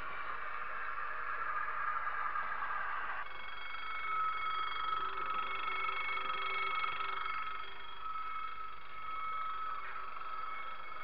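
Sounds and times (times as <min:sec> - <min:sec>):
model train electric whine: 0:00.0 - 0:11.0.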